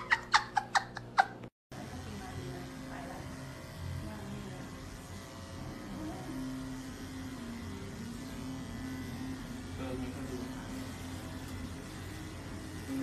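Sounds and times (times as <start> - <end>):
electric hair clipper buzzing: 1.8 - 13.0.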